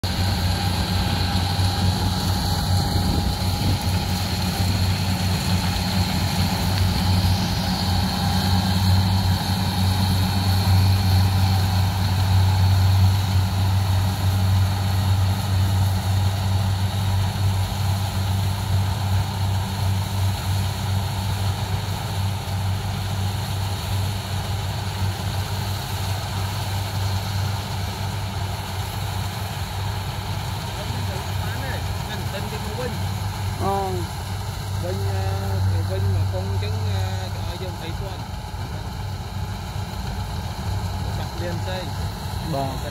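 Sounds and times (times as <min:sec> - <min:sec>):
combine harvester diesel hum: 0:00.0 - 0:42.9.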